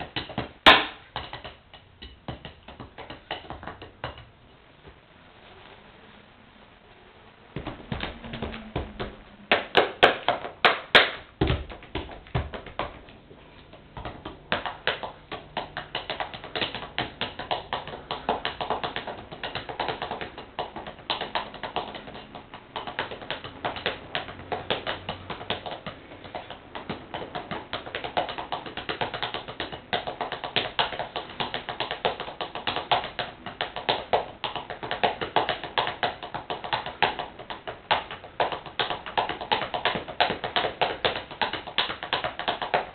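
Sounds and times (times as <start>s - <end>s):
drumsticks tapping on sneakers: 0.0s - 5.0s, 7.6s - 42.9s.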